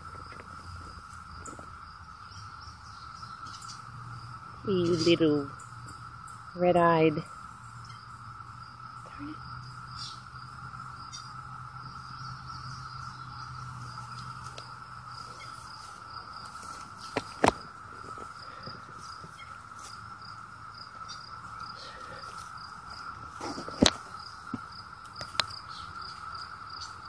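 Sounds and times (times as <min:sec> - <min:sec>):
cicadas droning: 0:00.0 - 0:27.0.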